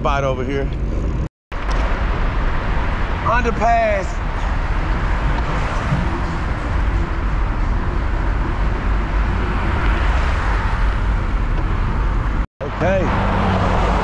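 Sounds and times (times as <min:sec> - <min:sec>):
wind rumble on microphone: 0:00.0 - 0:12.5
road traffic noise: 0:00.0 - 0:14.0.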